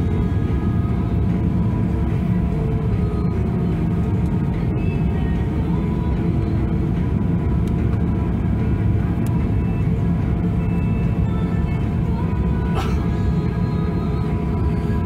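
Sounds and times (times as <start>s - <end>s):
aircraft rolling rumble: 0.0s - 15.0s
jet engine whine: 0.0s - 15.0s.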